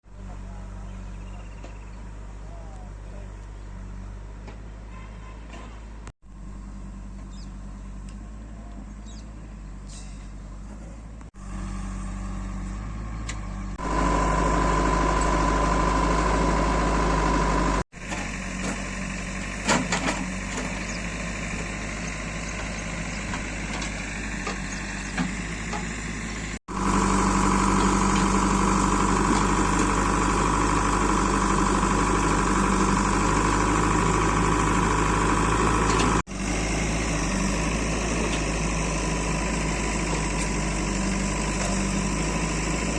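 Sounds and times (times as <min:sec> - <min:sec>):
heavy machinery engines running: 0:05.5 - 0:42.9.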